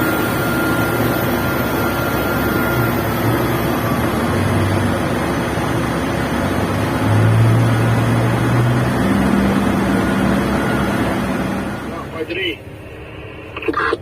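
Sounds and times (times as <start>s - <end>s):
heavy diesel machinery running: 0.0s - 14.0s.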